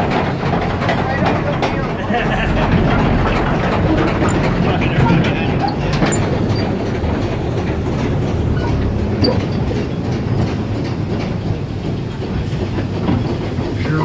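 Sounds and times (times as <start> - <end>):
train rolling on track: 0.0 - 14.0.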